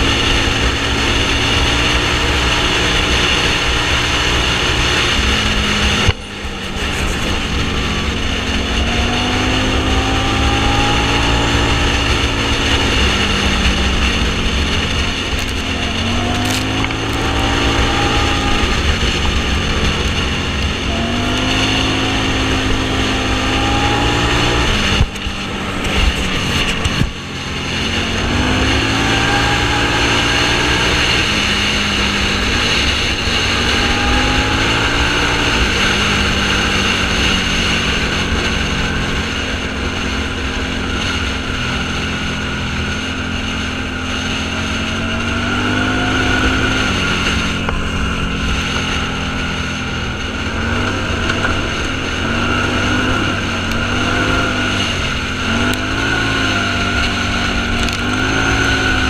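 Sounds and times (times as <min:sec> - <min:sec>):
off-road vehicle engine under load: 0:00.0 - 0:59.0
road and wind noise: 0:00.0 - 0:59.0.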